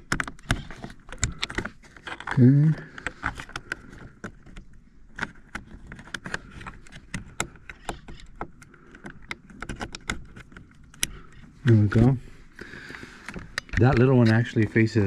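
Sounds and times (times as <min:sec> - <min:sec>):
plastic parts clicking into place: 0:00.0 - 0:11.8, 0:12.9 - 0:14.6.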